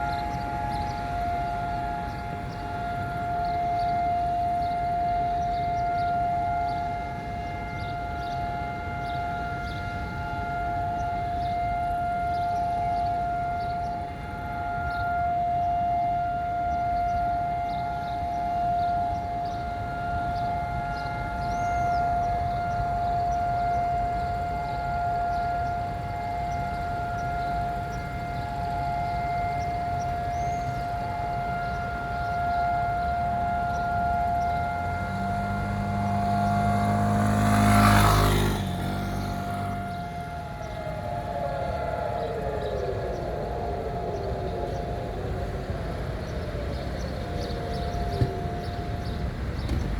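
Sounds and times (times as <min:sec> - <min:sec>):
steady siren tone: 0:00.0 - 0:49.9.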